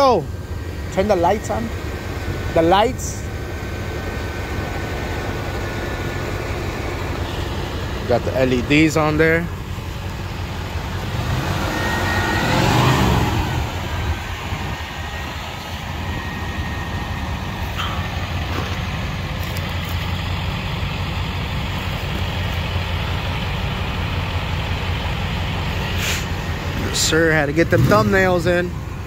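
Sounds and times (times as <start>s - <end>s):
car engine idling: 0.0s - 29.0s
passing vehicle: 0.0s - 29.0s.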